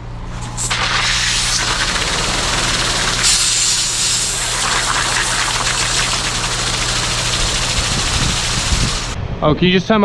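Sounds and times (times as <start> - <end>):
pressure washer spraying water: 0.4 - 9.2.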